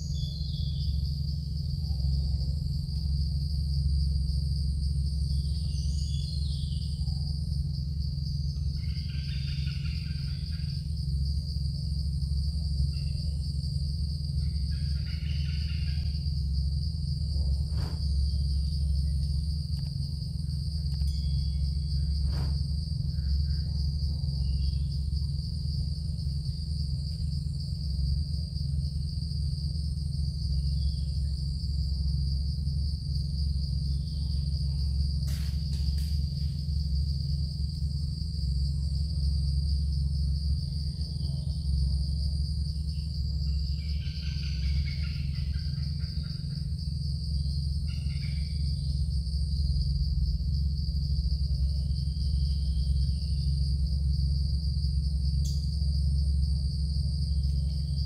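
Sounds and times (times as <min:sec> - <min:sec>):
constant low rumble: 0:00.0 - 0:58.0
insect chorus drone: 0:00.0 - 0:58.0.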